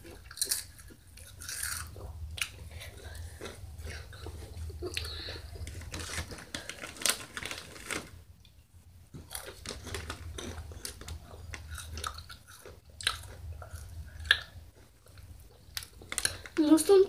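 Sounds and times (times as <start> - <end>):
chips being chewed: 0.0 - 8.1, 9.2 - 16.6.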